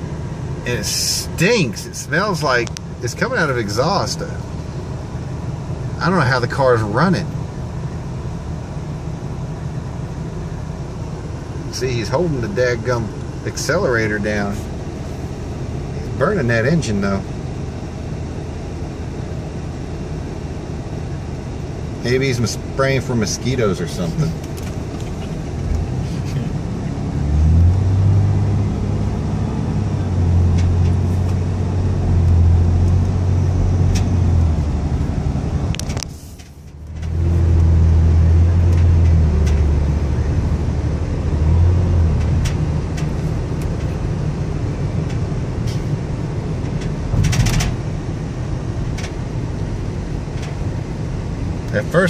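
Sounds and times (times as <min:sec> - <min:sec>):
engine and road drone: 0:00.0 - 0:52.0.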